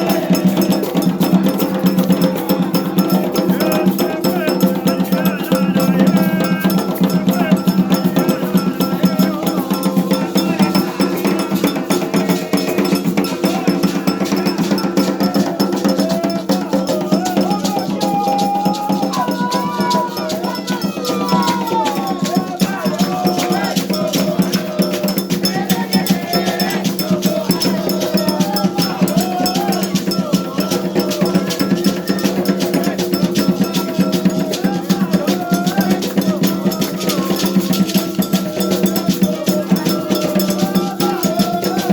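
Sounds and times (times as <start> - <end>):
clanking bell: 0.0 - 41.9
hand drums: 0.0 - 41.9
voices chanting: 0.0 - 41.9.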